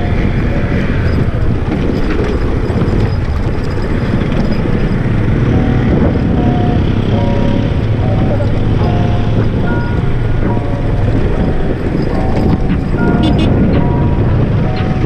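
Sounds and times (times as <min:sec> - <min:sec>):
dense loud rumble: 0:00.0 - 0:15.0
motorcycle engine running: 0:00.0 - 0:15.0.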